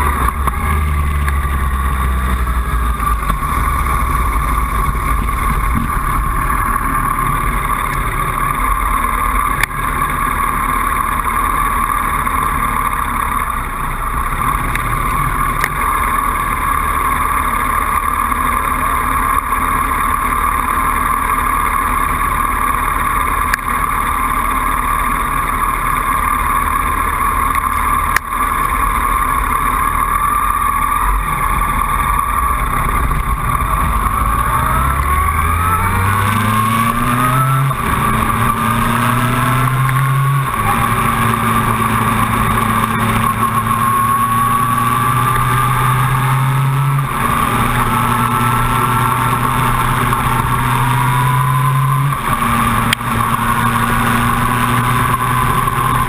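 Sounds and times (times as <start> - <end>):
motorcycle engine revving and shifting: 0.0 - 56.0.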